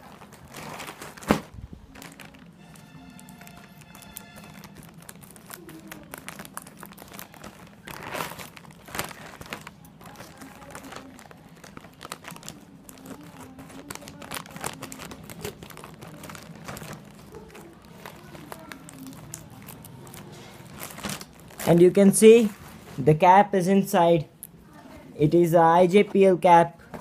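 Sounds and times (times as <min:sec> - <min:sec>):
plastic bag crinkling: 0:00.0 - 0:23.2.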